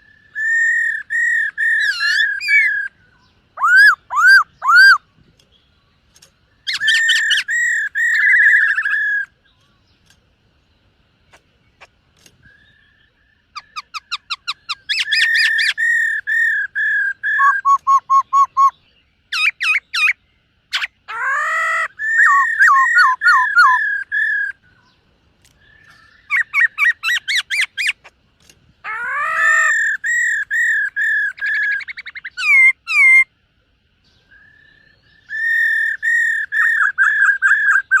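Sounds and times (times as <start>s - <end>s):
bird singing whistled notes: 0.0s - 28.0s, 28.9s - 33.3s, 34.0s - 38.0s.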